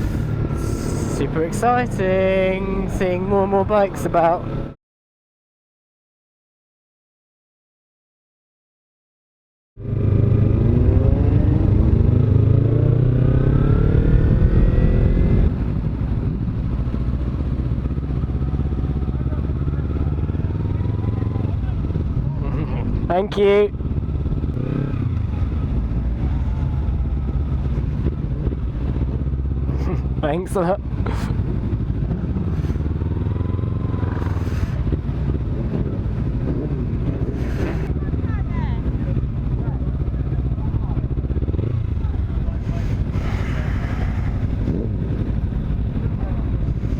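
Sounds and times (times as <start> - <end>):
motorcycle engine accelerating: 0.0 - 4.8, 9.8 - 46.9.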